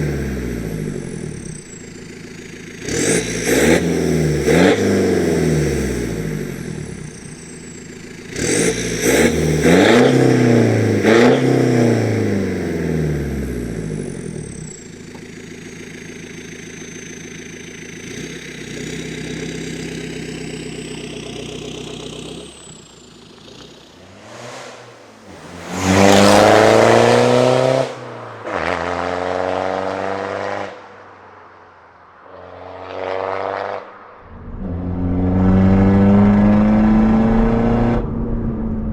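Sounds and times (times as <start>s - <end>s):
diesel engine revving: 0.0s - 30.6s, 33.0s - 38.9s.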